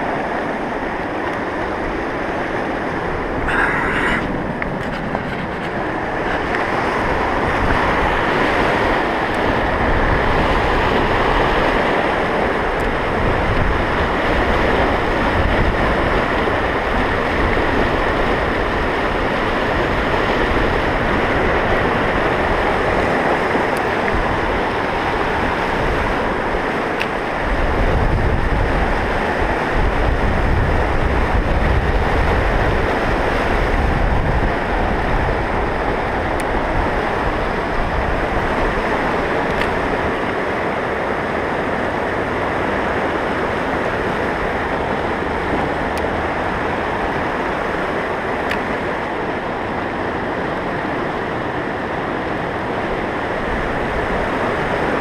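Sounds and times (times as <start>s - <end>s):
river rapids rushing: 0.0s - 55.0s
wind buffeting microphone: 0.0s - 55.0s.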